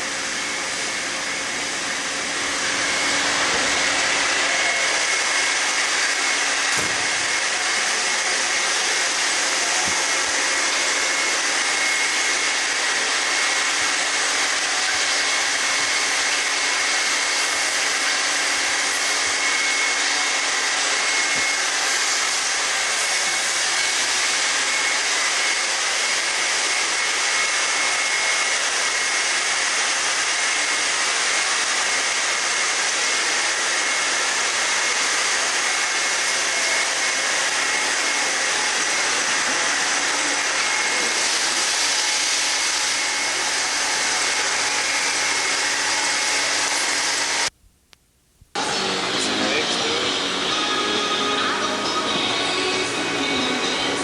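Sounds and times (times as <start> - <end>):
loud hiss with high whine: 0.0 - 47.8.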